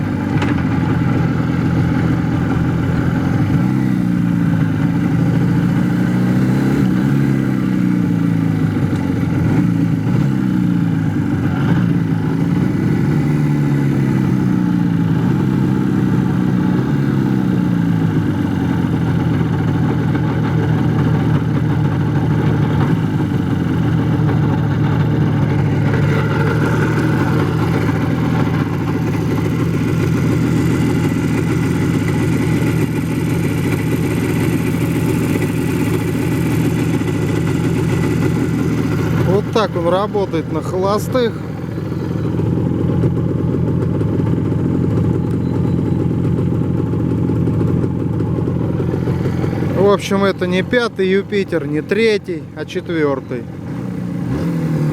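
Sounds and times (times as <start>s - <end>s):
motorcycle engine revving and idling: 0.0s - 54.9s.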